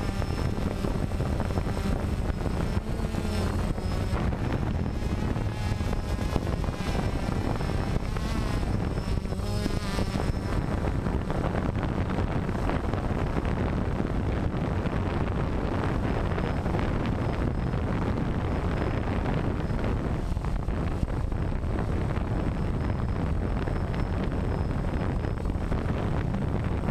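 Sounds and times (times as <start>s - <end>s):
drone propellers buzzing: 0.0s - 26.9s
high wavering whine: 0.0s - 26.9s.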